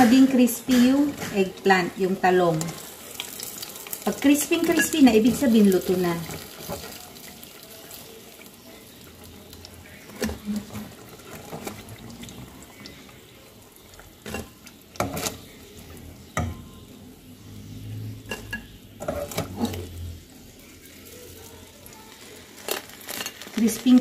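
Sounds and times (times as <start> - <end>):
eggplant frying in oil: 0.0 - 24.0.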